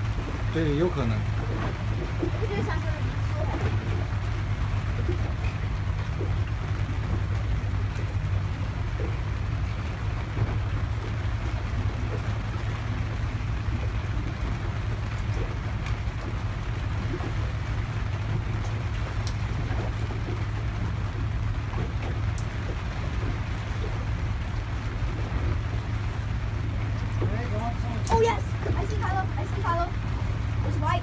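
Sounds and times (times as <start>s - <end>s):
boat engine idling: 0.0s - 31.0s
rain falling on sea: 0.0s - 31.0s.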